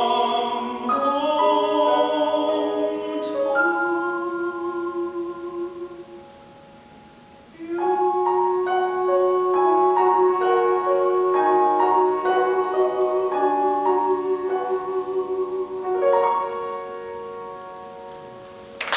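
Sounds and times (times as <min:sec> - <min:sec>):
piano chords: 0:00.0 - 0:18.9.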